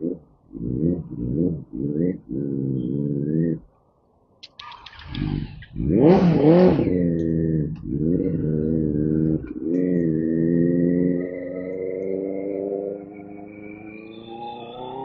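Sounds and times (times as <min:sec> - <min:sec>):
motorcycle engine revving: 0:00.0 - 0:03.7, 0:04.9 - 0:15.0.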